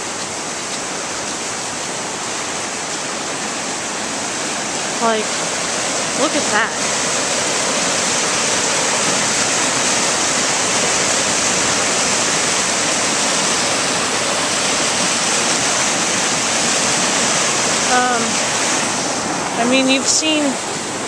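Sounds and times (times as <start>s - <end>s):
floodwater rushing over rapids: 0.0s - 21.0s.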